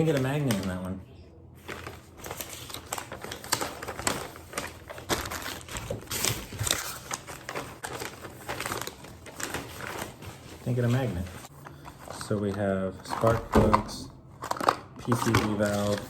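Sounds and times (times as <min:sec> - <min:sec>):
packaging crinkling and rustling: 0:00.0 - 0:00.9, 0:01.6 - 0:16.0.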